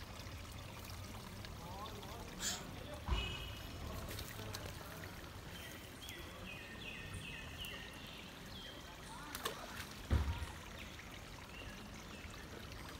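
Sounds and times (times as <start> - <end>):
trickling water: 0.0 - 12.9.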